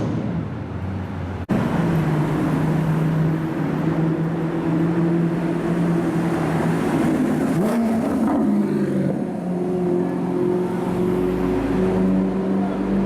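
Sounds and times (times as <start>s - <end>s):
car engine revving: 1.5s - 13.0s.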